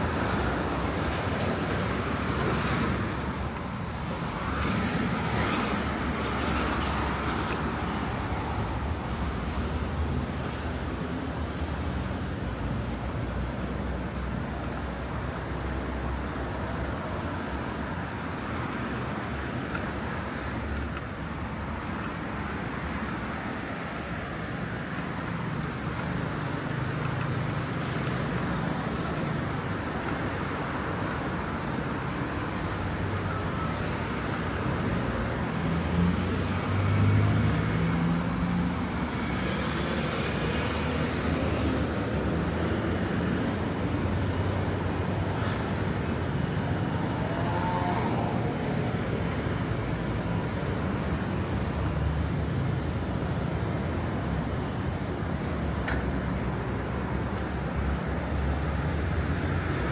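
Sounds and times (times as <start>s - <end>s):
heavy engines passing: 0.0s - 59.9s
road traffic noise: 0.0s - 59.9s.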